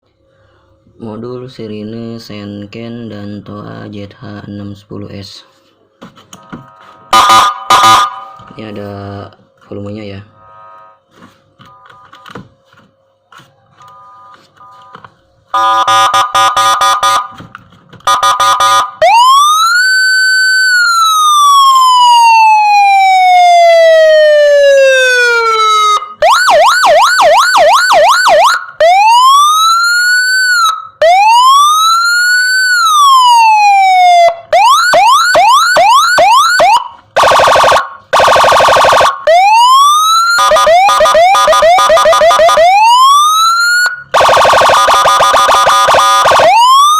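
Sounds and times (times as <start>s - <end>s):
electronic siren: 6.3s - 9.3s, 10.2s - 12.5s, 13.6s - 17.4s, 18.0s - 46.9s.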